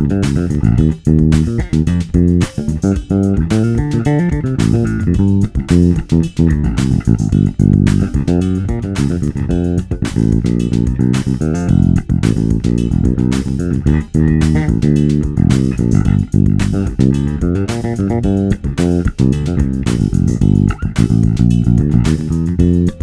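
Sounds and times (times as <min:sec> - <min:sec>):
electric bass plucked notes: 0:00.0 - 0:23.0.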